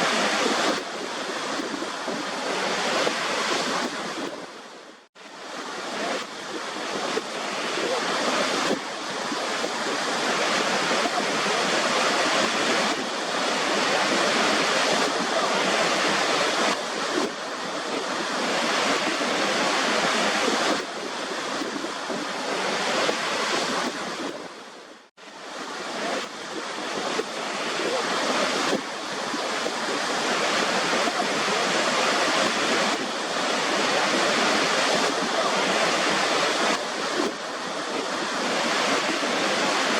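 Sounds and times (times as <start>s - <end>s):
waterfall roaring: 5.4s - 24.6s, 25.4s - 39.9s.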